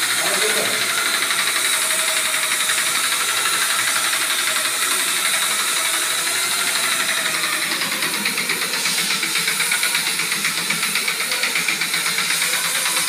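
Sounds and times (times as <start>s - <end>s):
electric sander on plaster wall: 0.0s - 13.0s.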